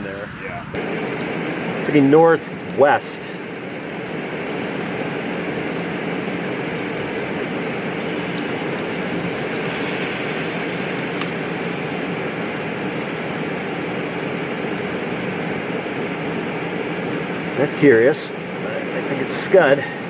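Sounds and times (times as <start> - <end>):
car interior rumble and hiss: 0.7 - 20.0.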